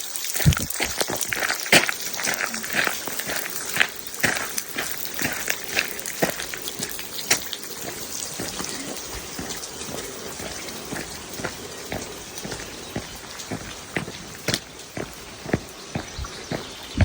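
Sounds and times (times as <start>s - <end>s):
rain hiss: 0.0s - 17.0s
raindrop taps: 0.3s - 17.0s.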